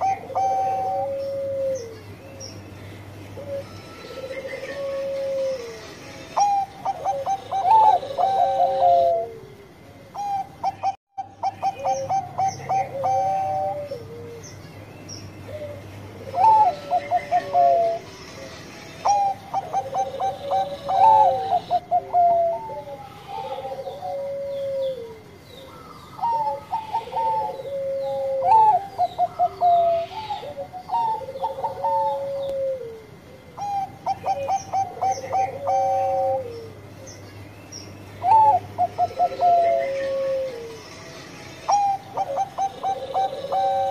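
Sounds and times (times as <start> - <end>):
dove cooing: 0.0 - 2.6, 3.3 - 14.6, 15.4 - 37.2, 38.2 - 41.0, 41.6 - 43.9.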